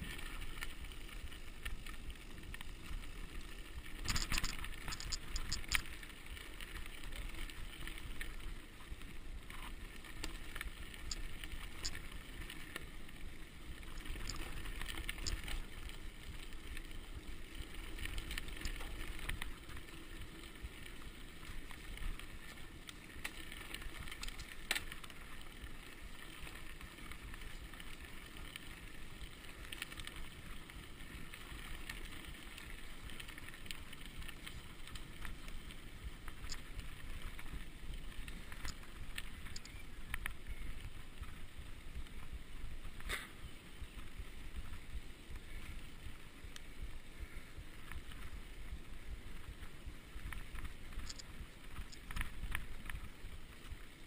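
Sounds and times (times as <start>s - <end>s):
bike clicks and rattles: 0.0s - 54.0s
bike tyres on gravel: 0.0s - 54.0s.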